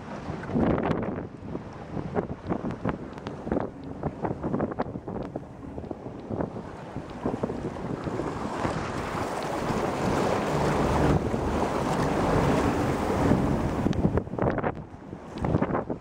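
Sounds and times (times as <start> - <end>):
bow wave rushing and splashing: 0.0 - 16.0
wind buffeting microphone: 0.0 - 16.0.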